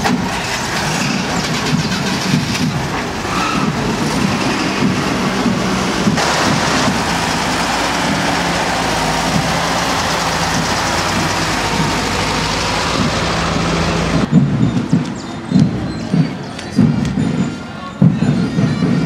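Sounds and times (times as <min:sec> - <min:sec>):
vehicle engines running: 0:00.0 - 0:19.0
low thumps: 0:01.3 - 0:19.0.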